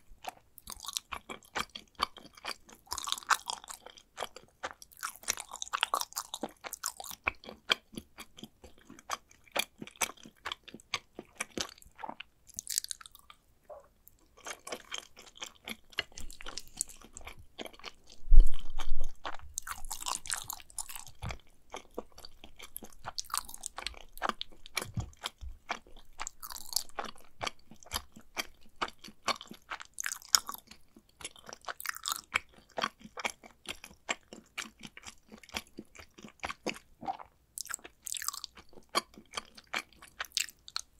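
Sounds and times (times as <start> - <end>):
chewing with wet mouth clicks: 0.2 - 40.9.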